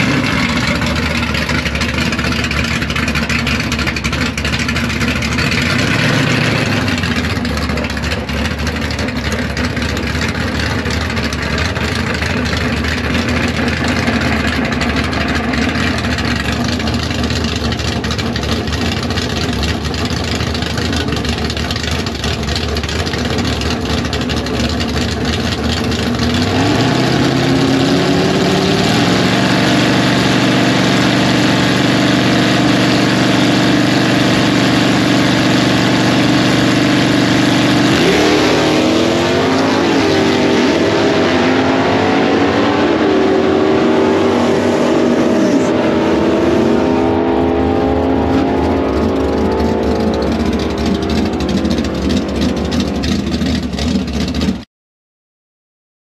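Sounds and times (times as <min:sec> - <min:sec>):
drag racing car engines revving: 0:00.0 - 0:54.6.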